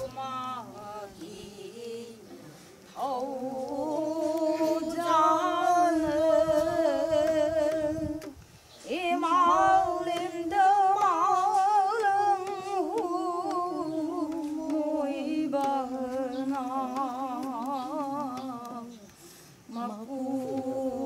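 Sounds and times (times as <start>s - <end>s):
women singing devotional song: 0.0s - 21.0s.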